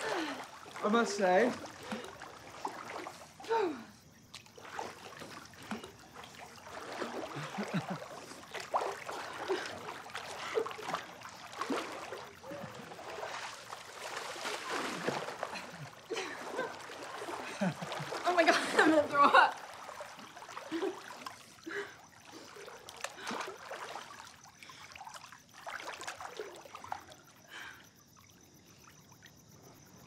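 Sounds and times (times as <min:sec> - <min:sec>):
water splashing in pool: 0:00.0 - 0:30.0.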